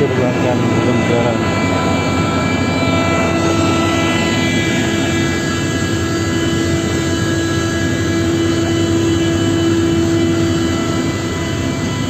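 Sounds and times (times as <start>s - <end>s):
aircraft engines droning: 0.0s - 12.0s
high whining tones: 0.0s - 12.0s.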